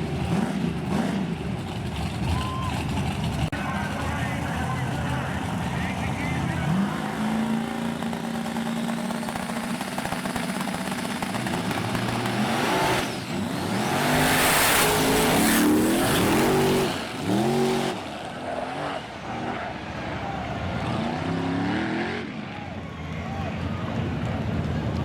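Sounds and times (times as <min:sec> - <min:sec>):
truck engine accelerating hard: 0:00.0 - 0:25.0.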